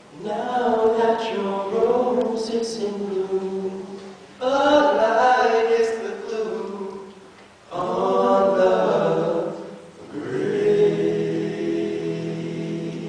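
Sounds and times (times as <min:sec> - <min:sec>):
male quartet singing chords: 0:00.1 - 0:13.0.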